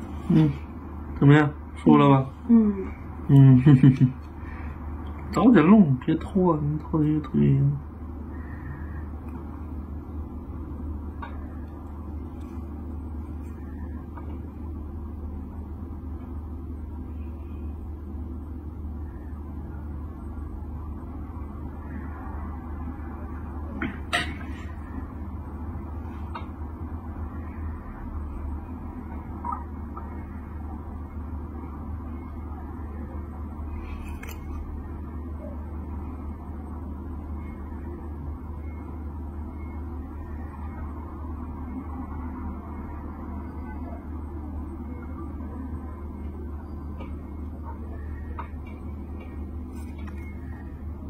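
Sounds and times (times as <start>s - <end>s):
machine humming: 0.0s - 51.0s.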